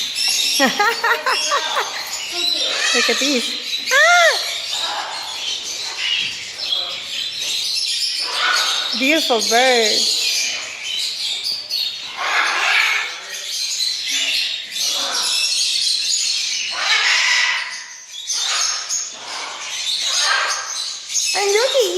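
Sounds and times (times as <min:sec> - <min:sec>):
parrots squawking and chirping: 0:00.0 - 0:21.9.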